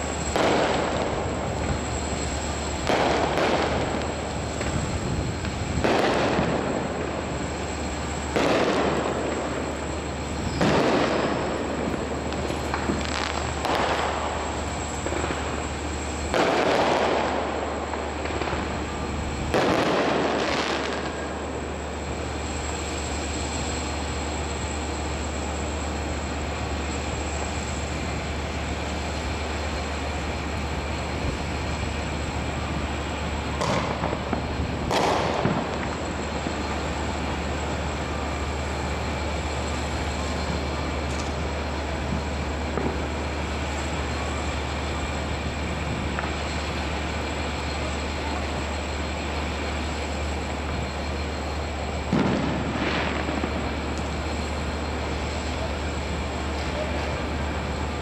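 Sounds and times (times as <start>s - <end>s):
fireworks bursting: 0.0s - 58.0s
steady low hum: 0.0s - 58.0s.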